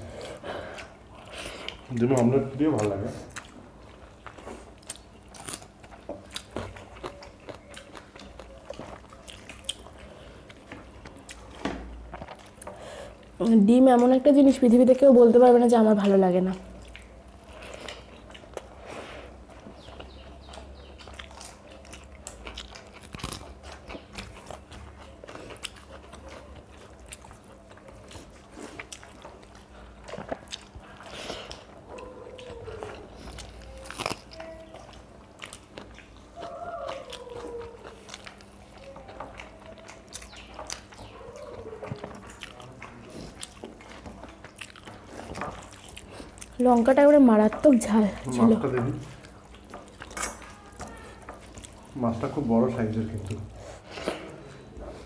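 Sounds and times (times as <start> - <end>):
people chewing and crunching: 0.0 - 55.0.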